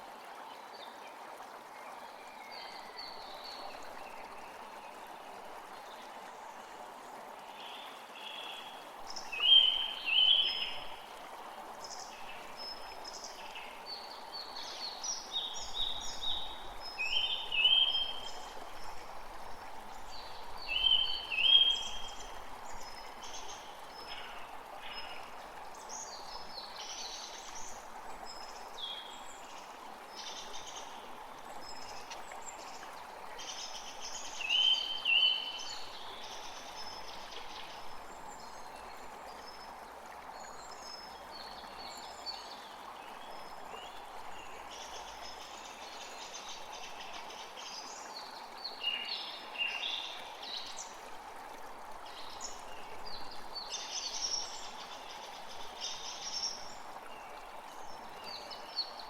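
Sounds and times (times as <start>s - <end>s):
creek running: 0.0s - 59.0s.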